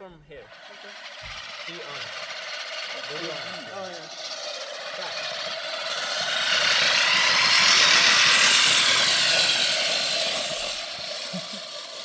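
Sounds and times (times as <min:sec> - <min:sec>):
lawn mower cutting grass: 0:00.0 - 0:12.0.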